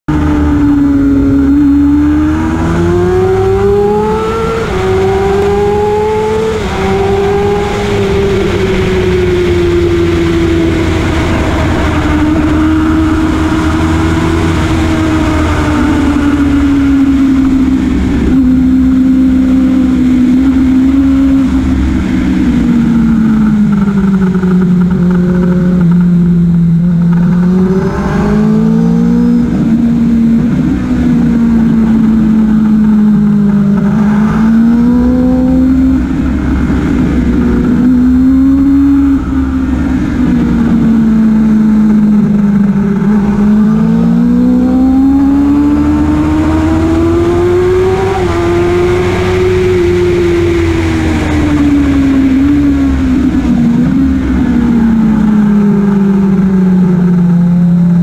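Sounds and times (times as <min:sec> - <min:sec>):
motorcycle engine revving: 0:00.0 - 0:58.0
wind rush: 0:00.1 - 0:58.0.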